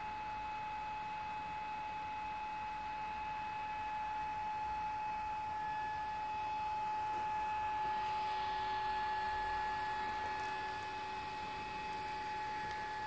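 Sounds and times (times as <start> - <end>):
high-pitched electrical whine: 0.0 - 13.0.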